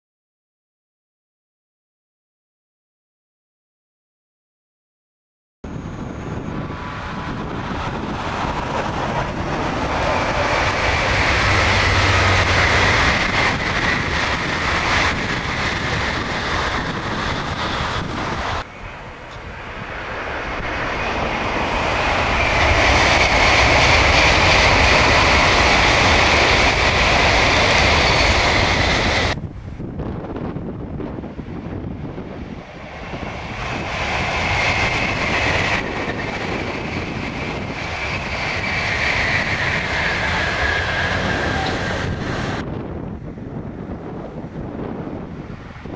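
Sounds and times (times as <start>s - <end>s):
trains passing at high speed: 5.7s - 45.9s.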